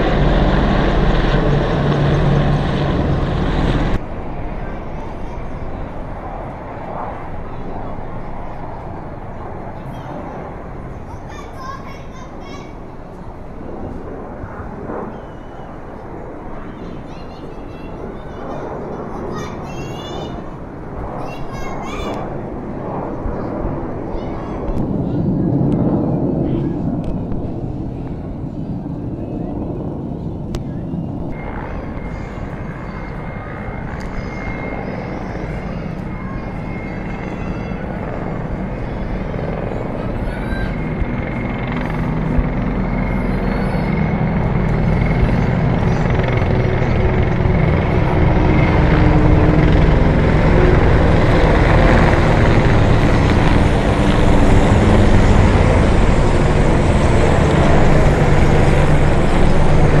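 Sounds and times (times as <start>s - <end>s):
helicopter rotors beating: 0.0s - 60.0s.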